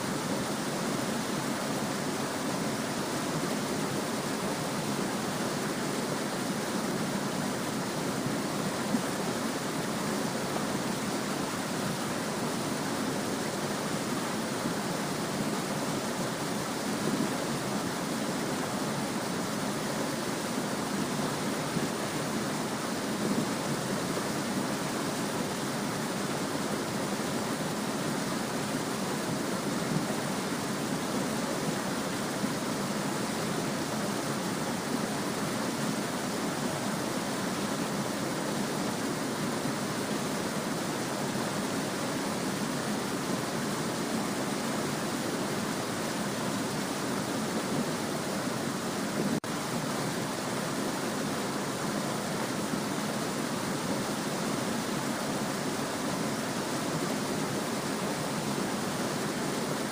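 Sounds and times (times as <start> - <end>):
small stream babbling: 0.0 - 59.9.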